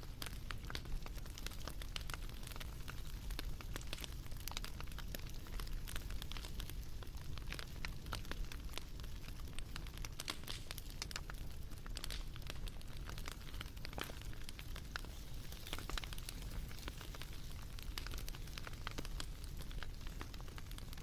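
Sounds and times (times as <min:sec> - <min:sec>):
bonfire snaps and pops: 0:00.0 - 0:21.0
fire low rumble: 0:00.0 - 0:21.0.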